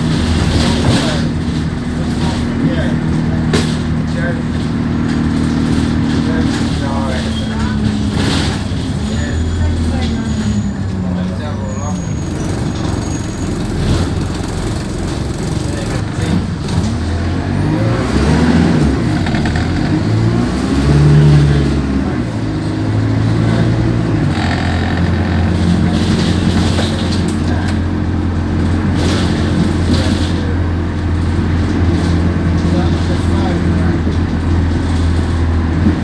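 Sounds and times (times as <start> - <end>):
bus engine running: 0.0 - 36.0.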